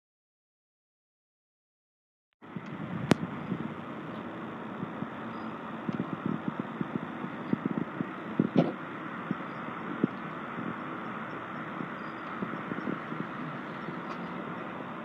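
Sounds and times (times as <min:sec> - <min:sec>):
outdoor background noise: 0:02.4 - 0:15.0.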